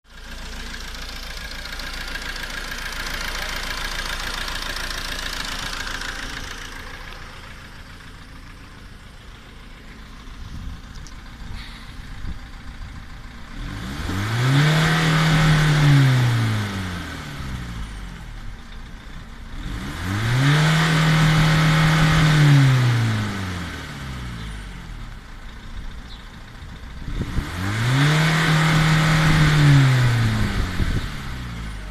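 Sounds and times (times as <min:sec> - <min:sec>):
diesel engine idling and revving: 0:00.0 - 0:31.9.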